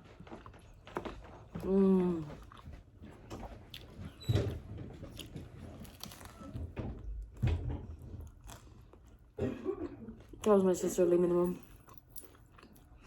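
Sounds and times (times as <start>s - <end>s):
chewing and biting pizza: 0.0s - 10.4s, 11.7s - 13.0s.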